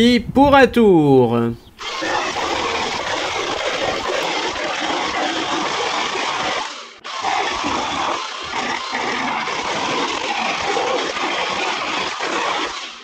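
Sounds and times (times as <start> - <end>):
chainsaw cutting wood: 1.8 - 13.0.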